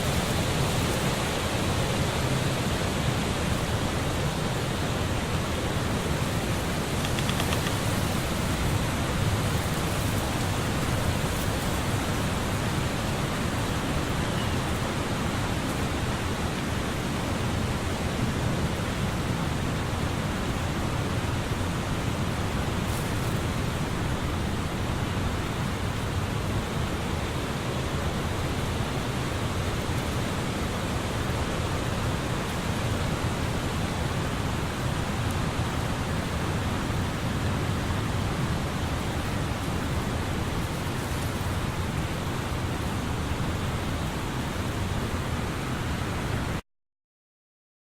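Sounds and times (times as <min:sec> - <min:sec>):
tree leaves rustling in wind: 0:00.0 - 0:46.6.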